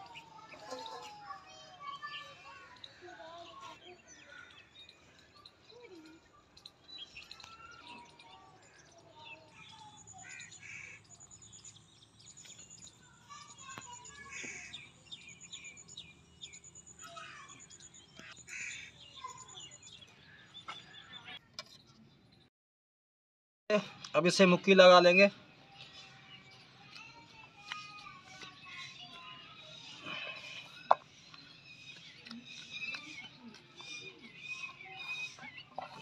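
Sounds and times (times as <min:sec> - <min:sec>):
small birds chirping: 0:00.0 - 0:22.5, 0:23.7 - 0:36.0.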